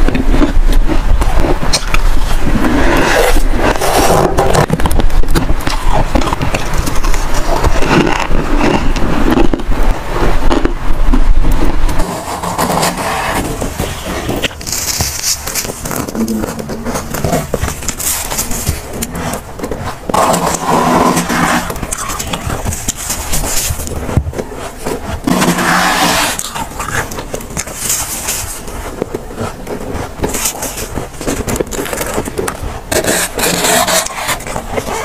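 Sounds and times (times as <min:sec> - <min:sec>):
frost and ice scraped and crunched: 0:00.0 - 0:35.0.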